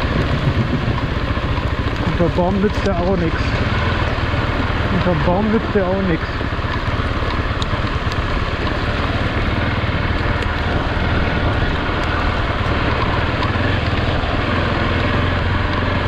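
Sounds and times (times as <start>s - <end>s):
motorcycle engine running: 0.0s - 16.0s
wind and rain on microphone: 0.0s - 16.0s.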